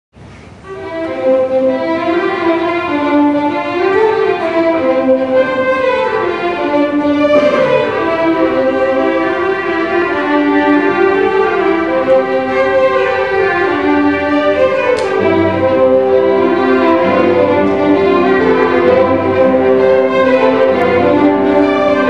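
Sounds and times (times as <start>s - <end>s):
string ensemble playing: 0.6s - 22.0s.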